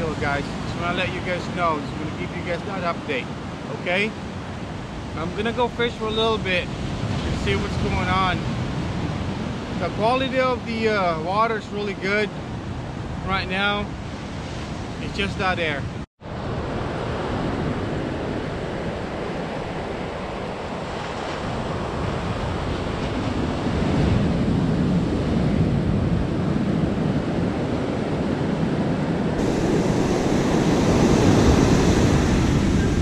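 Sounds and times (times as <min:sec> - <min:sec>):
ocean surf breaking on beach: 0:00.0 - 0:33.0
wind rumbling on microphone: 0:00.0 - 0:33.0.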